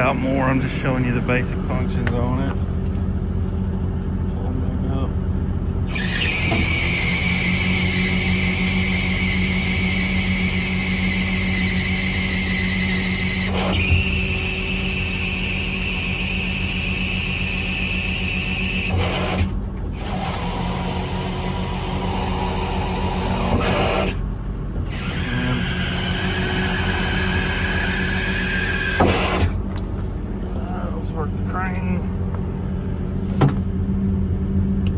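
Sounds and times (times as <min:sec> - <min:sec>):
hydraulic system whining: 0:00.0 - 0:04.5, 0:05.3 - 0:34.9
engine running steadily: 0:00.0 - 0:34.9.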